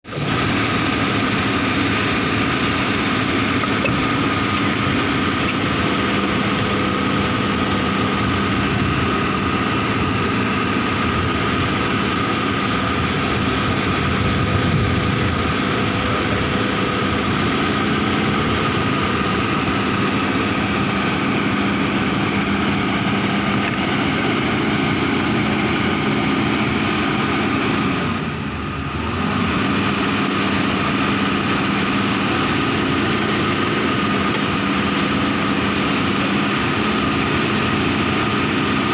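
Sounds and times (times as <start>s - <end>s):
engine humming with whine: 0.0s - 38.9s.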